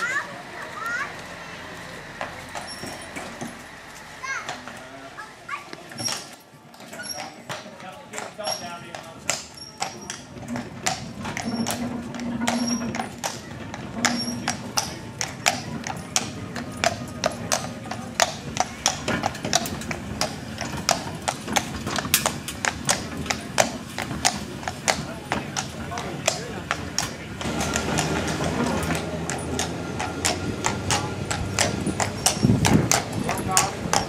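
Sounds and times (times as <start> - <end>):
horse hooves clip-clopping on stone: 0.6 - 34.0.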